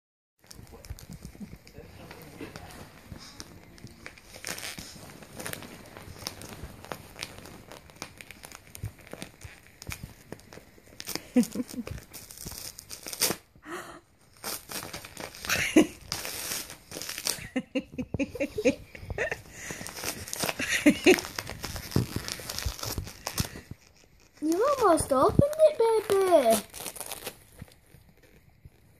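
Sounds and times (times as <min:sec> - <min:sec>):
wrapping paper crinkling and tearing: 0:00.4 - 0:13.6, 0:14.2 - 0:28.9.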